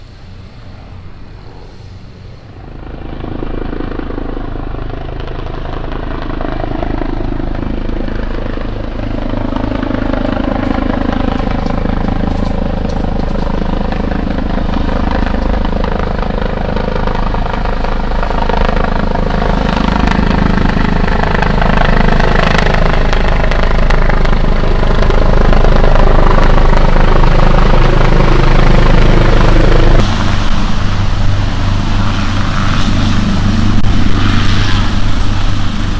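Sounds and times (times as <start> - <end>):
helicopter rotor and turbine: 0.0 - 35.9.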